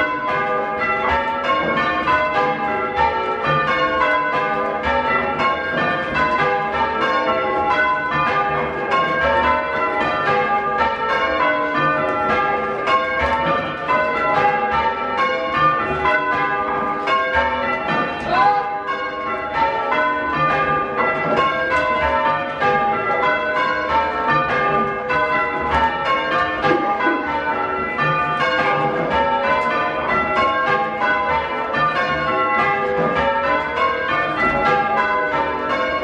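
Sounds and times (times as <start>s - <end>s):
church bells change ringing: 0.0s - 36.0s.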